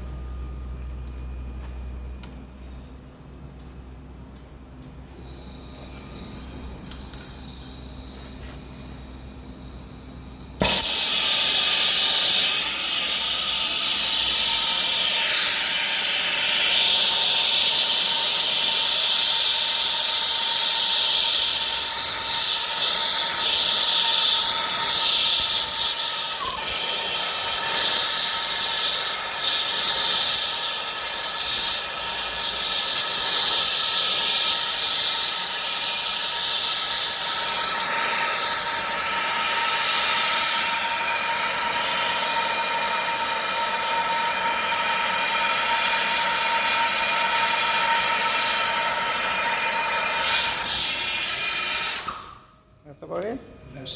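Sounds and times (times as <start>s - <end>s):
blowtorch lighting whoosh: 5.1s - 8.7s, 10.5s - 52.5s
blowtorch flame hissing: 5.1s - 52.5s.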